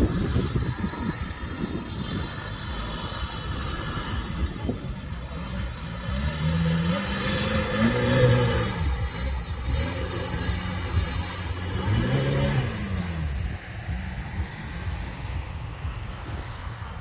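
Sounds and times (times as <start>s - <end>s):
car engine labouring and revving: 0.0s - 17.0s.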